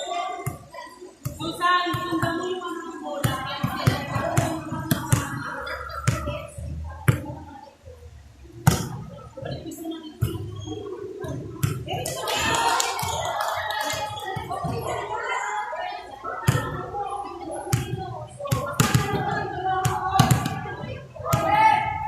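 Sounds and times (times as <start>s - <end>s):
players chattering and shouting: 0.0s - 22.0s.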